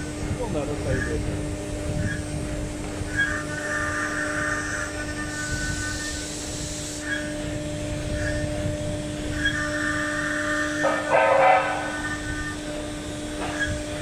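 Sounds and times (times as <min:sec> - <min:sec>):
bit engraving wood: 0:00.0 - 0:14.0
router spindle whining: 0:00.0 - 0:14.0.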